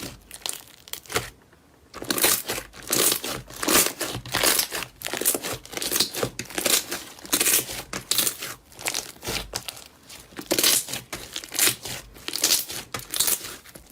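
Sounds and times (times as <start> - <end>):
crunchy material crackling: 0.0 - 13.9.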